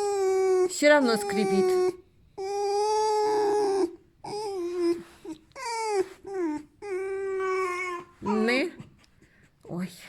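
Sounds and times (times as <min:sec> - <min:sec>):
fox squeaking: 0:00.0 - 0:08.6.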